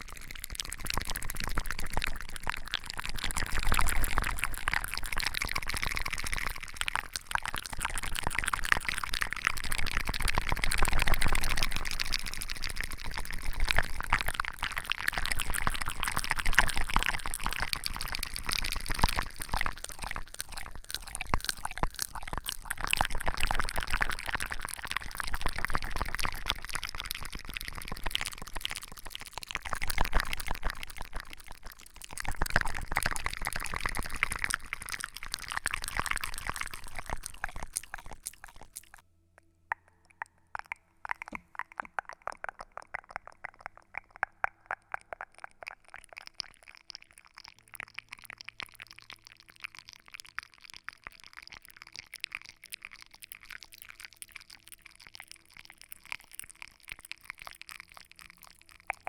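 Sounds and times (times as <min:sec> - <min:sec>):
liquid crackling: 0:00.0 - 0:59.0.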